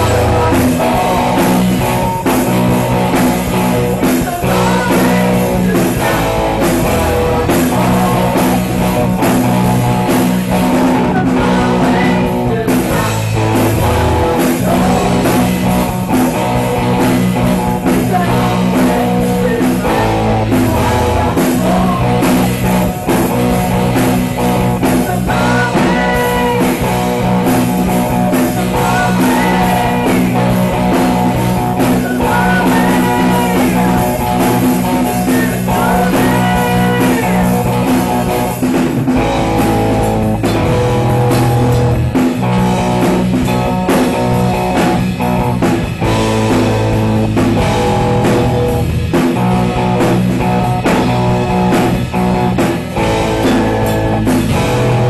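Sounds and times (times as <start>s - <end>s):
live rock band with singer: 0.0s - 55.0s.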